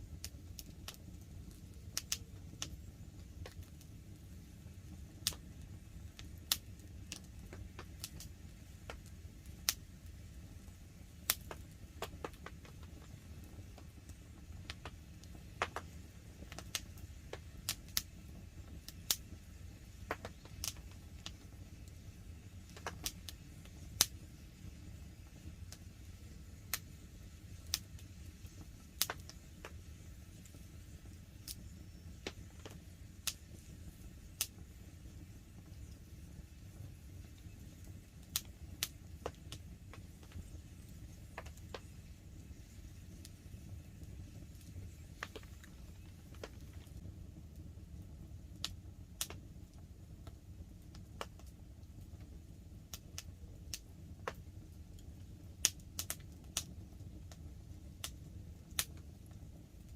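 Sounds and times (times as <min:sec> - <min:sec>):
campfire crackling and popping: 0:00.0 - 0:59.9
low steady rumble: 0:00.0 - 0:59.9.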